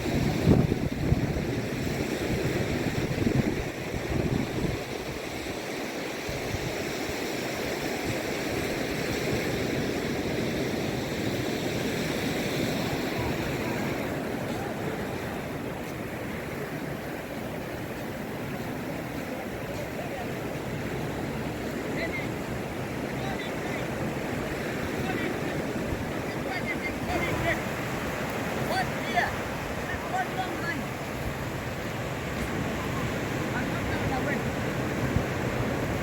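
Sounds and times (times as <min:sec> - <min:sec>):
surf washing onto beach: 0:00.0 - 0:36.0
wind buffeting microphone: 0:00.0 - 0:36.0.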